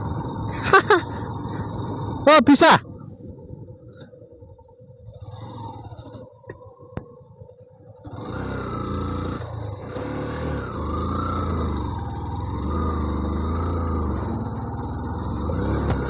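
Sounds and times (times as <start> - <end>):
motorcycle engine revving: 0.0 - 3.2, 5.1 - 7.2, 7.9 - 16.0.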